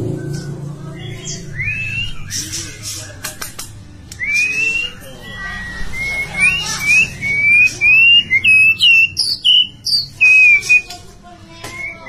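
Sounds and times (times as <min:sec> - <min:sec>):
bird singing whistled notes: 0:00.0 - 0:02.8, 0:04.2 - 0:11.0, 0:11.6 - 0:12.0.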